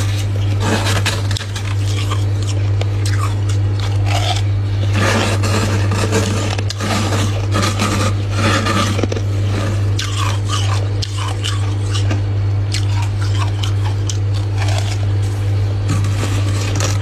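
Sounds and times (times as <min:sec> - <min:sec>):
frost crunching while chewed: 0:00.0 - 0:17.0
steady low hum: 0:00.0 - 0:17.0.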